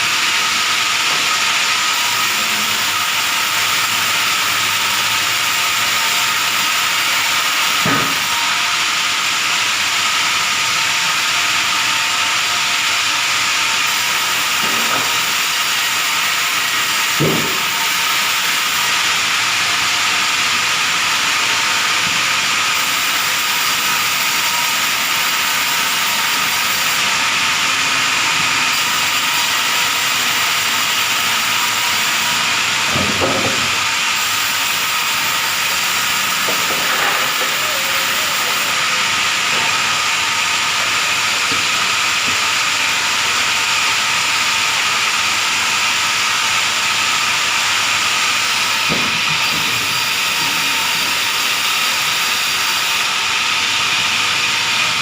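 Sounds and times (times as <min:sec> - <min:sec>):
sawmill machine hiss and whine: 0:00.0 - 0:55.0.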